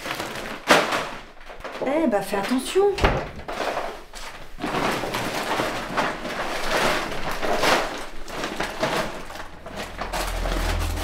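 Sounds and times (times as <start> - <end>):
plastic bag rustling: 0.0 - 11.0.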